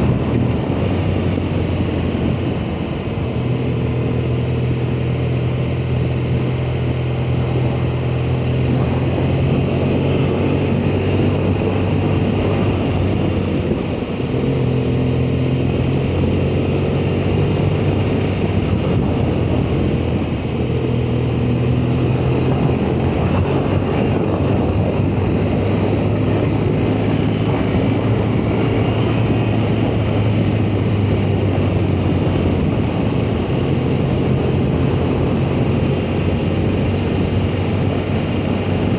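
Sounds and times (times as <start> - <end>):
motorcycle engine running: 0.0 - 38.9
rush of wind noise: 0.0 - 38.9.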